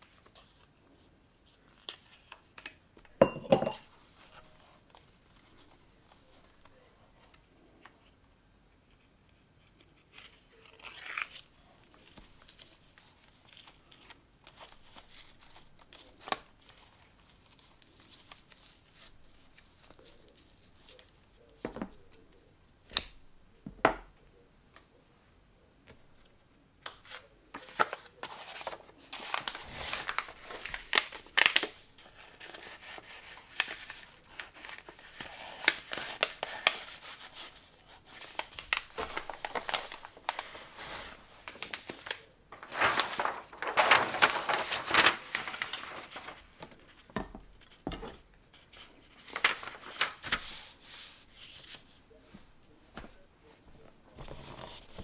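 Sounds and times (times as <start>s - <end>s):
paper rustling and crinkling: 0.0s - 3.1s, 3.8s - 8.2s, 8.9s - 22.4s, 25.9s - 55.0s.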